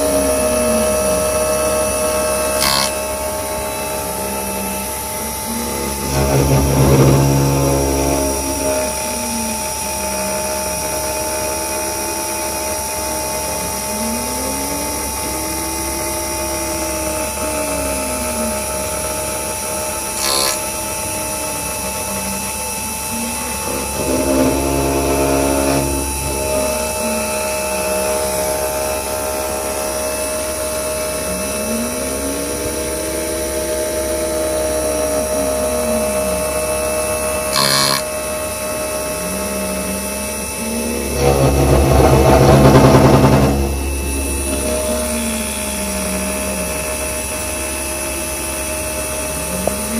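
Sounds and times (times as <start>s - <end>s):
axis drive tone rising and falling: 0.0s - 20.6s, 22.0s - 49.9s
milling spindle whine: 0.0s - 49.9s.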